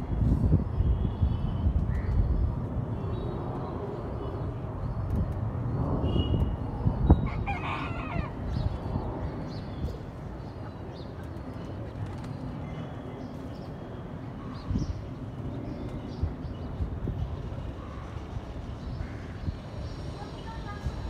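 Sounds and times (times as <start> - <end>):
city background rumble: 0.0 - 21.0.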